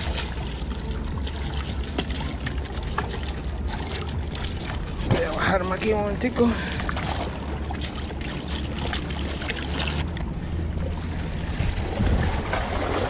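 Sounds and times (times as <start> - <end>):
water lapping against rocks: 0.0 - 13.0
wind rumble on microphone: 0.0 - 13.0.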